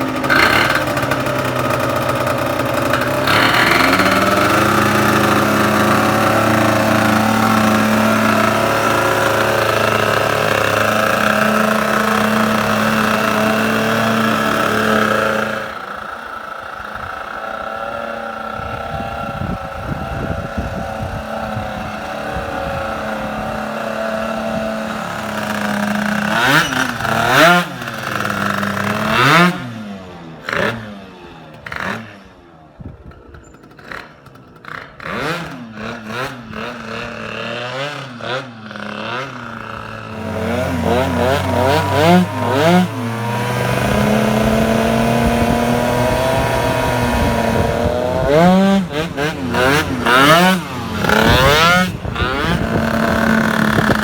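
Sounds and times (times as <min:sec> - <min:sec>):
two-stroke scooter engine revving: 0:00.0 - 0:54.0.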